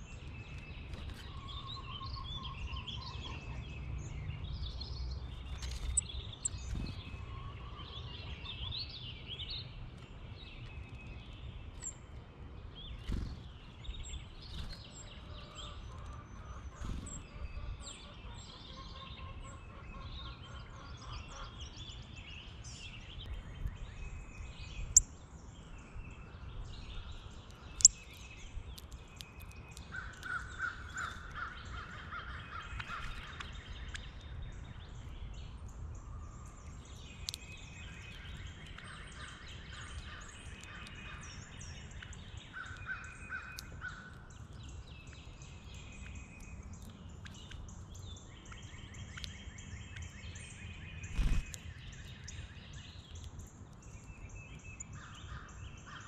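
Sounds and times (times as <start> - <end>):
wild birds singing and calling: 0.0 - 56.0.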